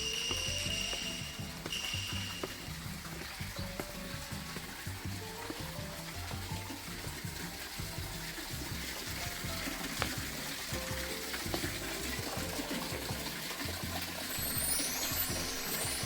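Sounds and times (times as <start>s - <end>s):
background music with bass line: 0.0s - 16.0s
running water splashing: 0.0s - 16.0s.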